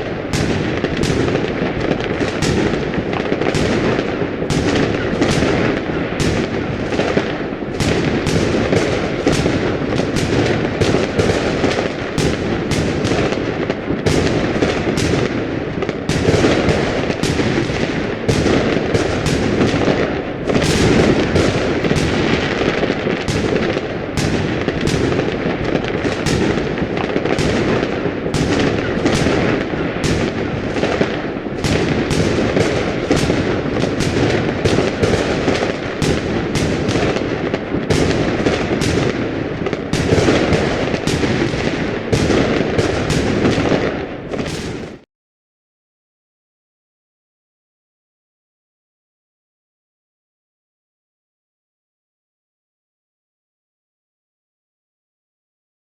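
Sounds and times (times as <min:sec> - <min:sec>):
fireworks bangs and crackles: 0:00.0 - 0:45.1.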